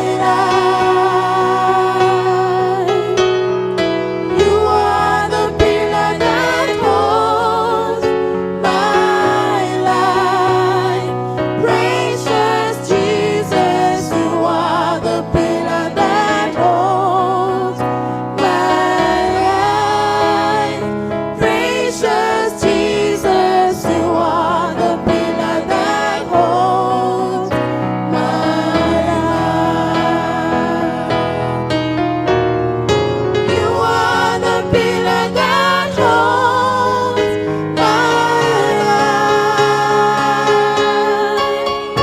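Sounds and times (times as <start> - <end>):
gospel choir singing: 0.0 - 42.0
keyboard chords: 0.0 - 42.0.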